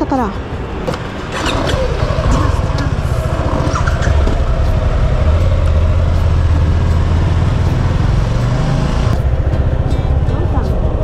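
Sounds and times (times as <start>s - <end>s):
motorcycle engine running: 1.0s - 11.0s.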